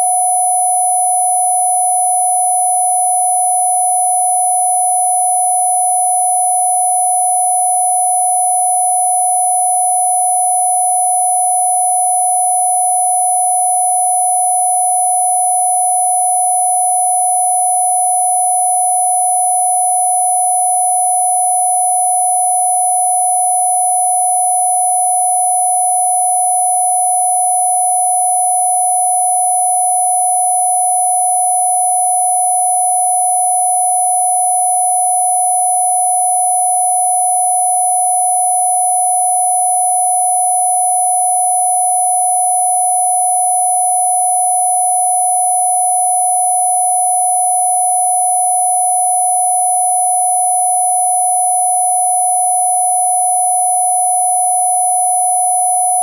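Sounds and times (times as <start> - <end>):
steady sine tone: 0.0 - 56.0.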